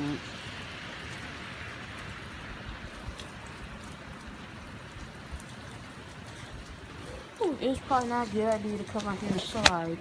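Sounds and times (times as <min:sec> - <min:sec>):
pouring rain: 0:00.0 - 0:10.0.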